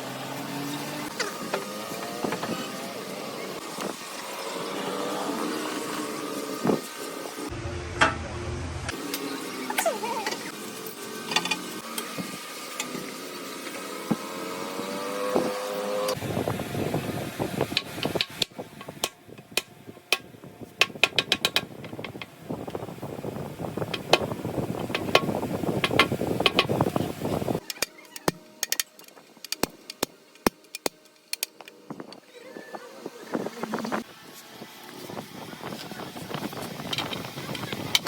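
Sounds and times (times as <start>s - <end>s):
steady workshop noise: 0.0s - 38.0s.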